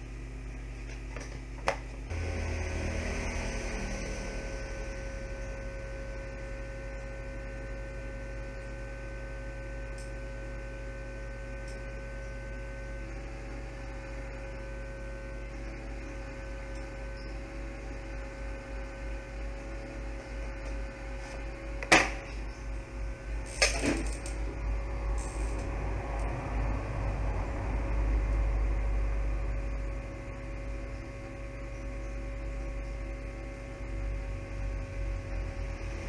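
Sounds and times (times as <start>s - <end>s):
electrical mains hum: 0.0s - 36.0s
faint equipment whine: 0.0s - 36.0s.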